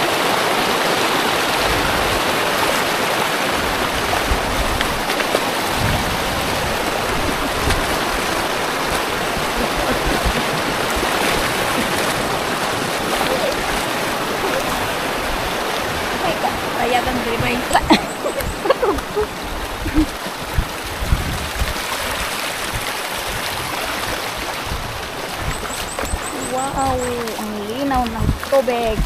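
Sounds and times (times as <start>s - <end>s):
stream flowing over stones: 0.0s - 29.0s
low bumps: 3.6s - 23.5s, 24.7s - 29.0s.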